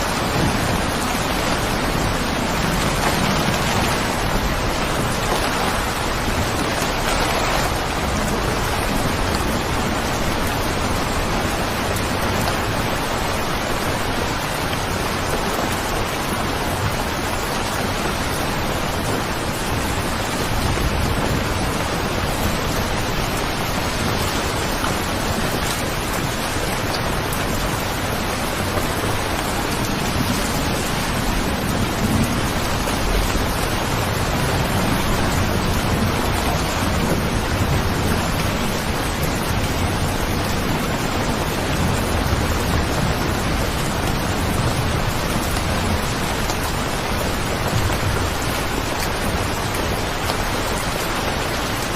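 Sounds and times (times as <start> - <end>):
thunder rumble: 0.0 - 51.8
steady rain: 0.0 - 51.9.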